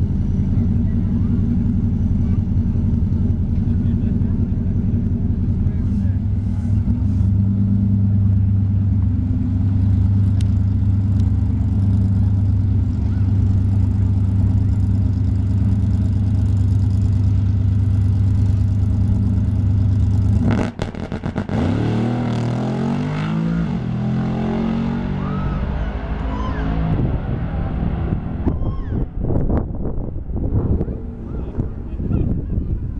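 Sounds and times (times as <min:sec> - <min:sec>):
truck engine idling and revving: 0:00.0 - 0:32.9.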